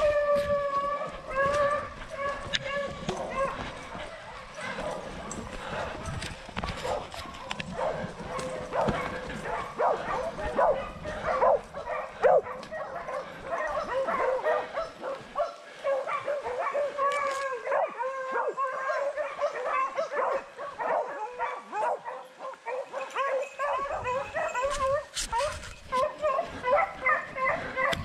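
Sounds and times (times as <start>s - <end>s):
pack of dogs baying: 0.0s - 28.0s.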